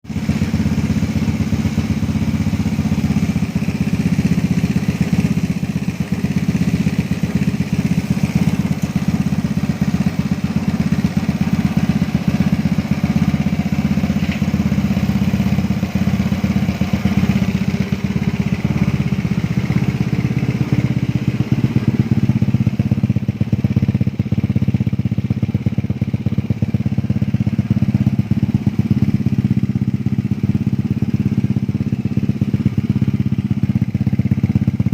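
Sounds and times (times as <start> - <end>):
scooter engine running: 0.1 - 34.9.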